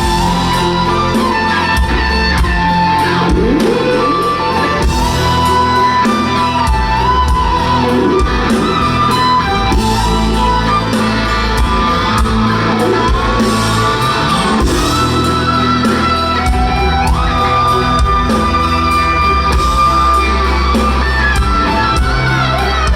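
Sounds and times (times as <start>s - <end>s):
electric guitar sliding notes: 0.0s - 22.9s
live rock music: 0.0s - 22.9s.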